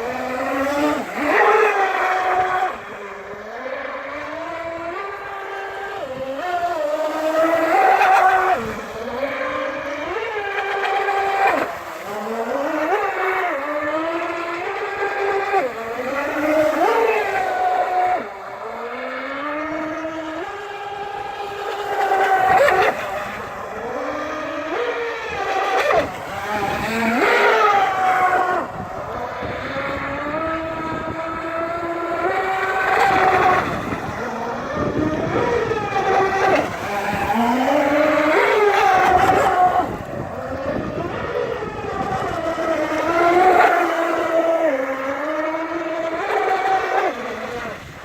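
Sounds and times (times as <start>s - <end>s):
model jet ski motor whining: 0.0s - 48.0s.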